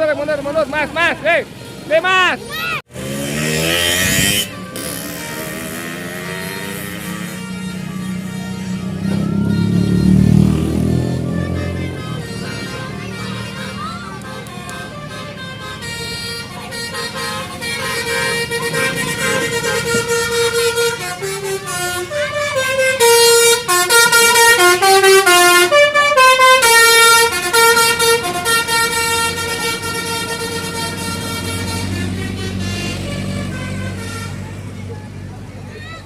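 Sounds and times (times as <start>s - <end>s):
musical bus horn playing a tune: 1.5s - 35.0s
low hum of bus engine: 3.8s - 36.0s.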